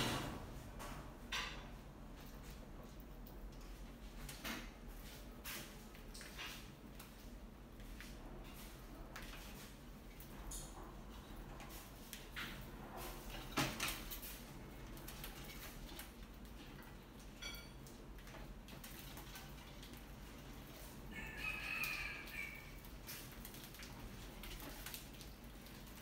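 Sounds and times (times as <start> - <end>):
rats scrabbling on wire mesh: 2.1 - 26.0.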